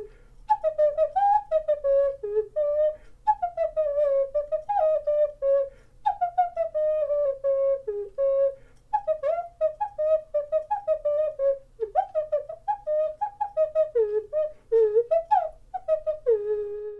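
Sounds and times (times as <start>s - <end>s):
ocarina melody: 0.0s - 16.9s.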